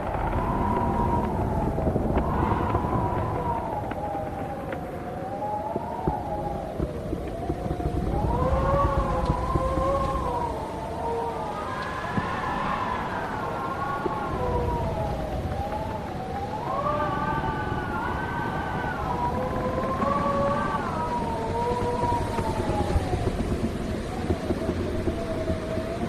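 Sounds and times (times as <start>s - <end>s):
low gusty rumble: 0.0s - 26.0s
wind howling: 0.0s - 26.0s.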